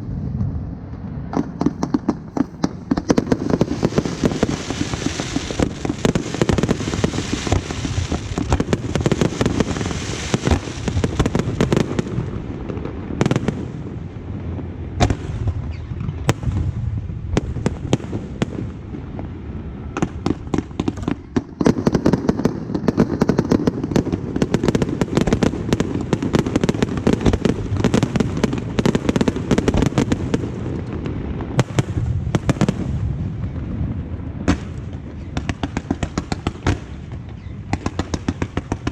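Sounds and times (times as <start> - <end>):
fireworks bursts and bangs: 0.0 - 38.9.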